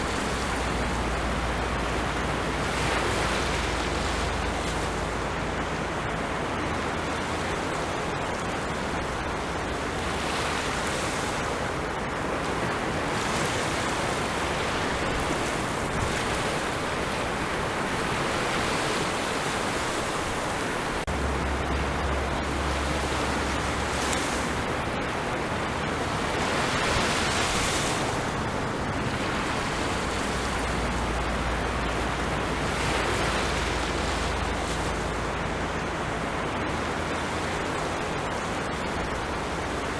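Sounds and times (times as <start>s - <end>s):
low surf rumble: 0.0s - 39.9s
ocean waves breaking: 0.0s - 39.9s.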